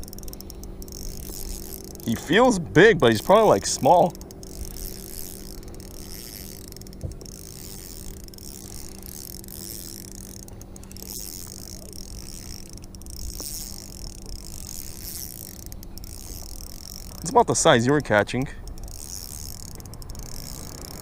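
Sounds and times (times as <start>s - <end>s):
fishing reel whirring: 0.0s - 21.0s.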